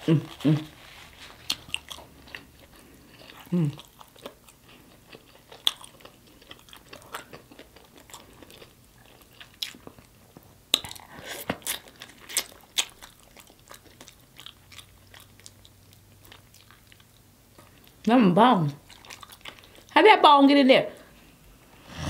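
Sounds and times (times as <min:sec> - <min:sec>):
person chewing chicken: 0:00.0 - 0:18.1, 0:18.8 - 0:19.9.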